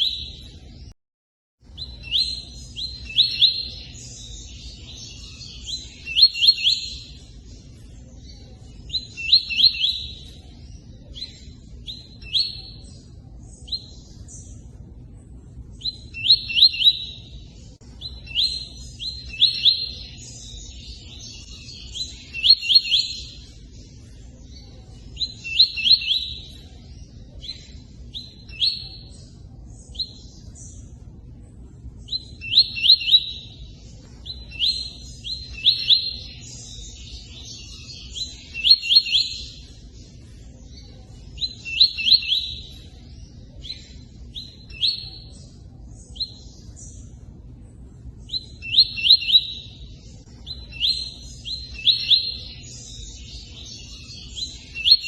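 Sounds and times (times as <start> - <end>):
songbird whistling song: 0.0 - 1.0, 1.6 - 55.0.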